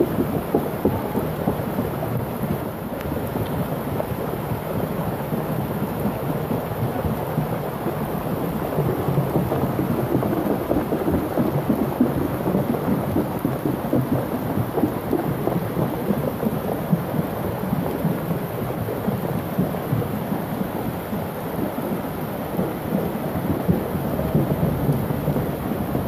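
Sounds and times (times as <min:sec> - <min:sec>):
floodwater rushing: 0:00.0 - 0:26.0
rain falling: 0:00.0 - 0:26.0.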